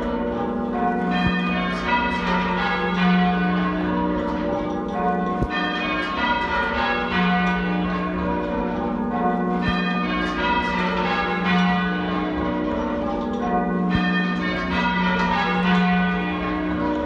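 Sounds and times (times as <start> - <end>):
half-muffled church bells ringing: 0.0 - 17.0.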